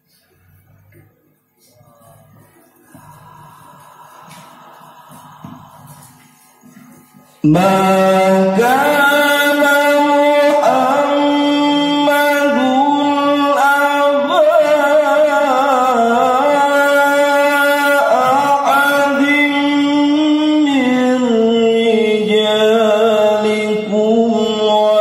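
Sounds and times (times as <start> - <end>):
man chanting melodically: 1.6 - 25.0.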